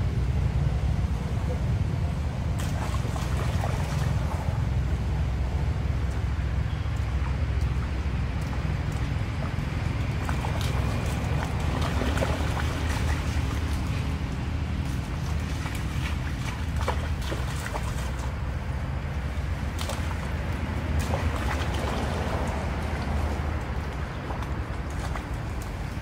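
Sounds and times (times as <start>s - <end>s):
small splashes: 2.4s - 26.0s.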